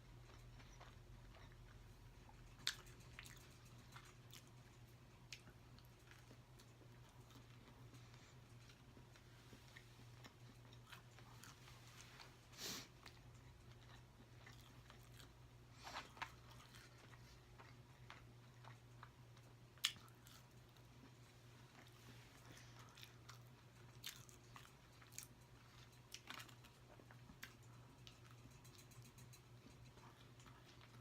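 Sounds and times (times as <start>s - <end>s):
faint low hum: 0.0s - 31.0s
person chewing food: 0.0s - 31.0s.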